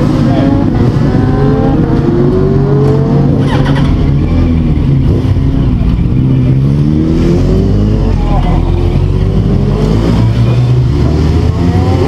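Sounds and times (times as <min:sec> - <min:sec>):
racing motorcycle engines accelerating: 0:00.0 - 0:12.0.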